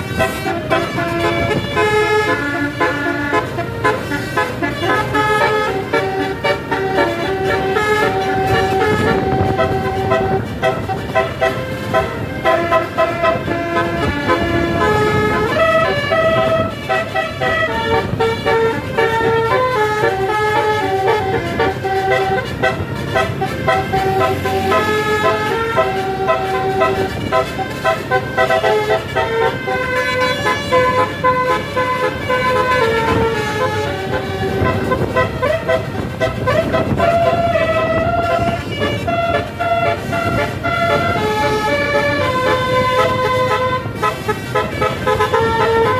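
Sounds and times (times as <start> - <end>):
low vehicle rumble: 0.0 - 45.9
musical bus horn tune: 0.0 - 45.9.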